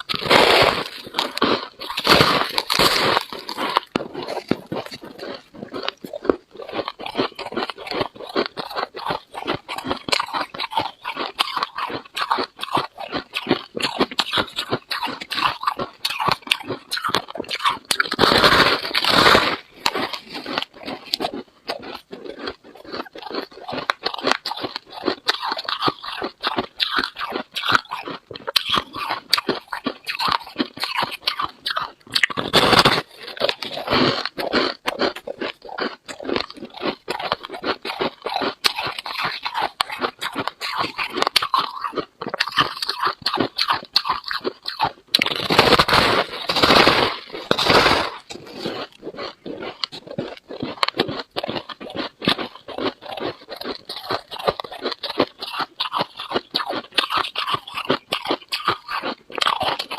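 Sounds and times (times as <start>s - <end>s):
frost being chewed: 0.0s - 59.9s.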